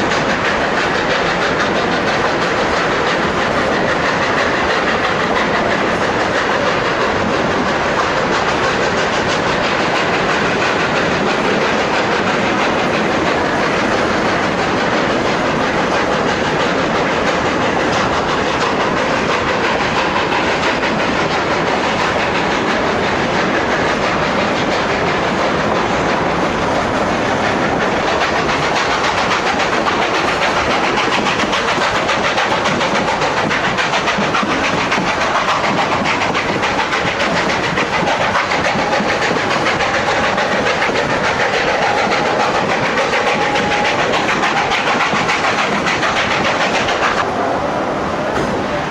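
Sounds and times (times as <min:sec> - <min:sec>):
train wheels rattling on rails: 0:00.0 - 0:48.9.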